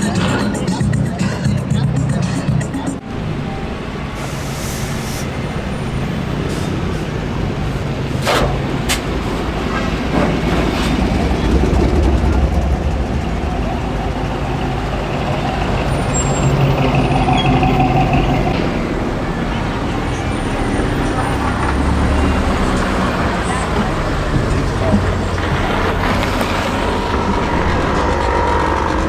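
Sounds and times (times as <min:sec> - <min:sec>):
truck engines running: 0:00.0 - 0:29.0.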